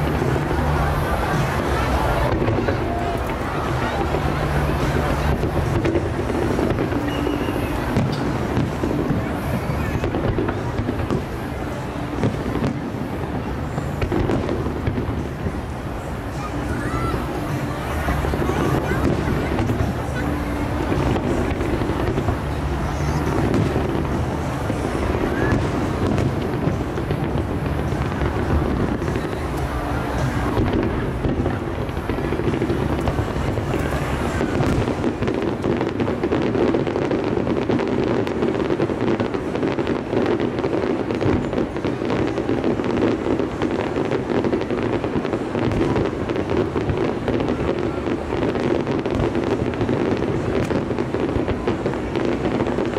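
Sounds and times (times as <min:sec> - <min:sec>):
fireworks bursting and crackling: 0:00.0 - 0:52.9
music playing: 0:00.0 - 0:52.9.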